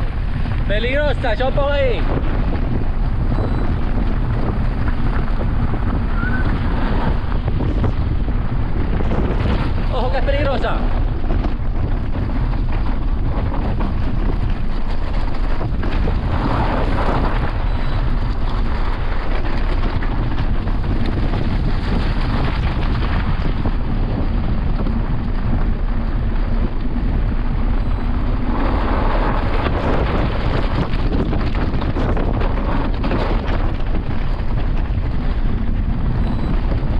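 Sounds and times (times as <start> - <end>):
bike frame rattling: 0.0 - 36.9
bike tyres rumbling on gravel: 0.0 - 36.9
wind rushing over microphone: 0.0 - 36.9.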